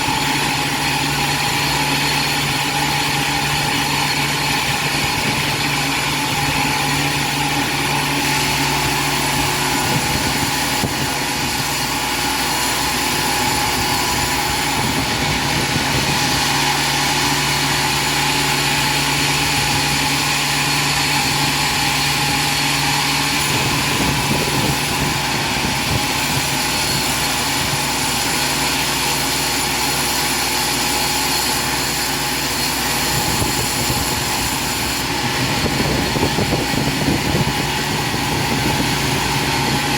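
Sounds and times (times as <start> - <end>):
constant mechanical whining: 0.0 - 39.9
sawmill machinery running: 0.0 - 39.9.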